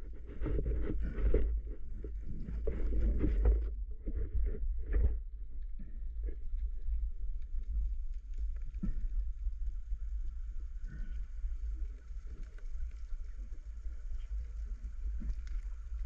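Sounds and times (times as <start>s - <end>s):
muffled underwater water rumble: 0.0s - 16.0s.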